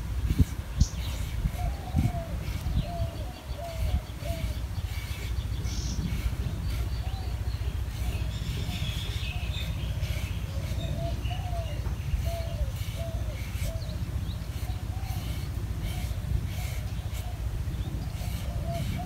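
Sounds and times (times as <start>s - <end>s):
birds calling: 0.0s - 19.0s
steady low rumble: 0.0s - 19.0s
high bird chirps: 0.7s - 19.0s.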